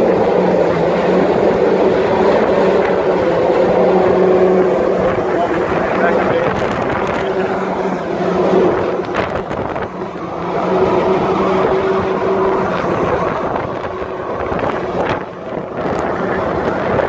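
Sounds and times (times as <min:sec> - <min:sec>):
pump engine running: 0:00.0 - 0:17.0
water rushing from hose: 0:00.0 - 0:17.0.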